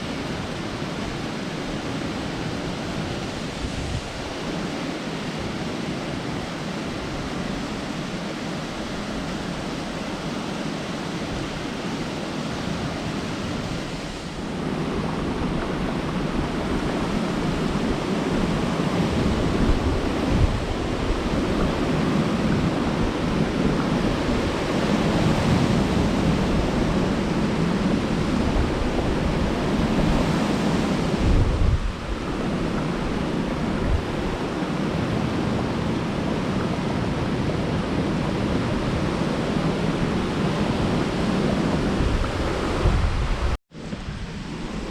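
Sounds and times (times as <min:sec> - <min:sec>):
waterfall rushing water: 0:00.0 - 0:44.9.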